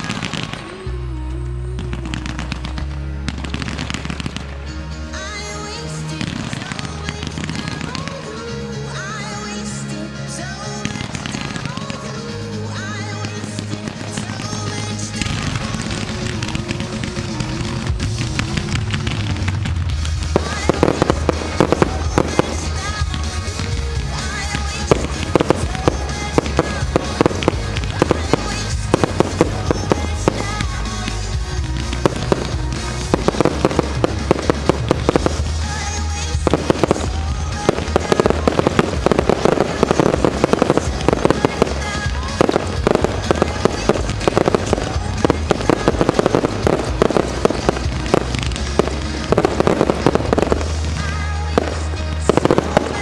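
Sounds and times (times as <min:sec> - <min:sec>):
firework bursts and crackles: 0:00.0 - 0:53.0
music playing: 0:00.0 - 0:53.0.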